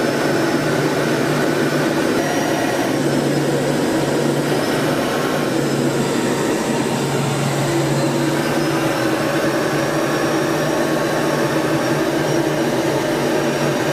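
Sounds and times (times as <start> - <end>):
aircraft cockpit engine drone: 0.0 - 13.9
faint high whine: 2.2 - 13.9.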